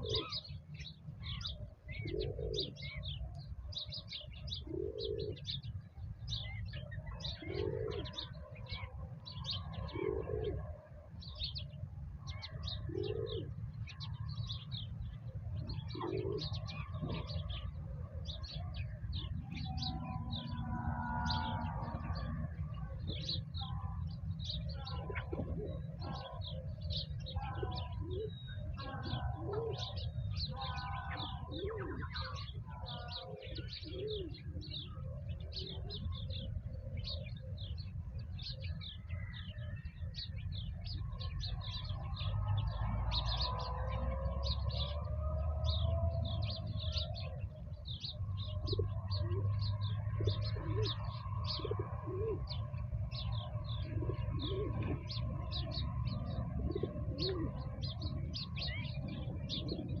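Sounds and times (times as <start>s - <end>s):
pigeons cooing: 0.0s - 60.0s
small birds chirping: 0.0s - 60.0s.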